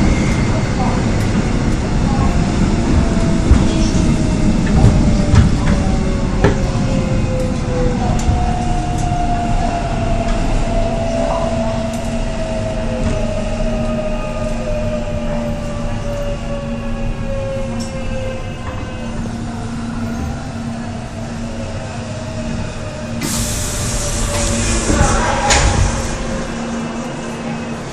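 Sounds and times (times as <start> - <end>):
train interior rumble: 0.0 - 27.9.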